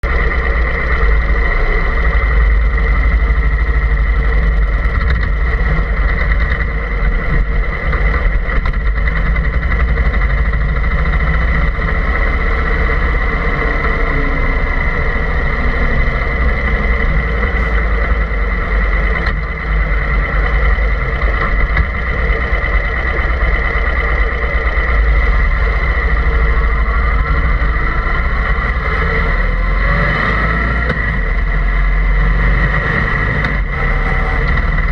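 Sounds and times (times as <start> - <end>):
engine drone with high whine: 0.0 - 34.9.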